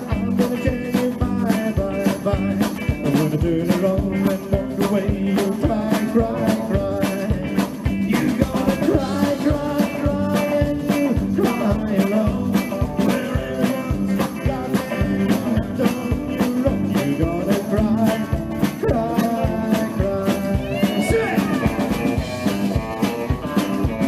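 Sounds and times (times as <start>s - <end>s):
drums keeping a steady beat: 0.0s - 24.0s
electric guitar: 0.0s - 24.0s
upright double bass: 0.0s - 24.0s.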